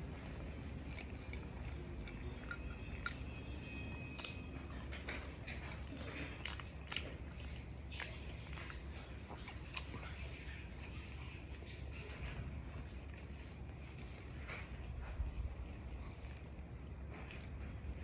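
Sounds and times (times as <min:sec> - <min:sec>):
person chewing sandwich: 0:00.0 - 0:18.0.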